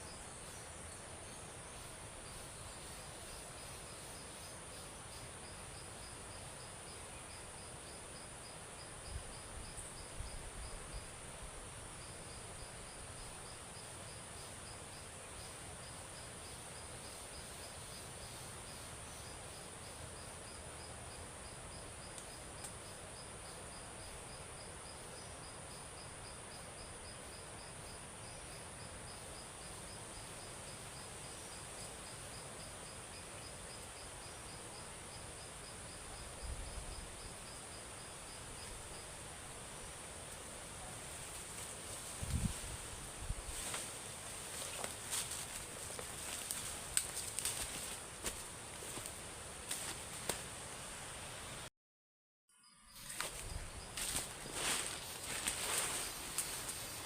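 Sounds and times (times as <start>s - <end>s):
crickets chirping: 0.0s - 51.7s, 52.5s - 57.0s
insects buzzing: 0.0s - 51.7s, 52.5s - 57.0s.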